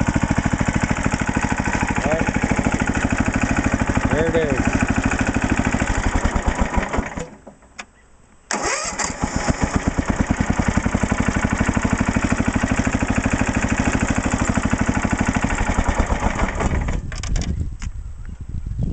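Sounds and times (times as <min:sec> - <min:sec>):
garden tractor engine running: 0:00.0 - 0:07.9, 0:08.5 - 0:17.5.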